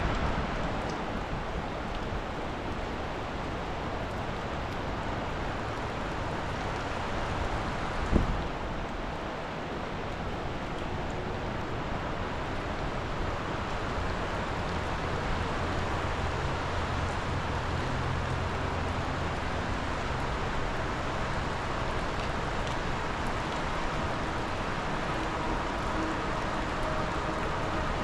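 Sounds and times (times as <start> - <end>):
flooded river rushing: 0.0 - 28.0.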